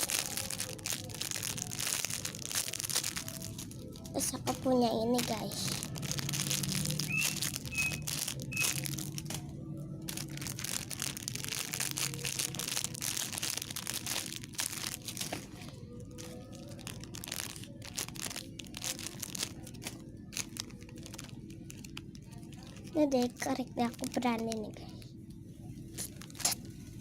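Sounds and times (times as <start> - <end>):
faint low hum: 0.0 - 27.0
foam toy and wrapping crinkling: 0.0 - 27.0.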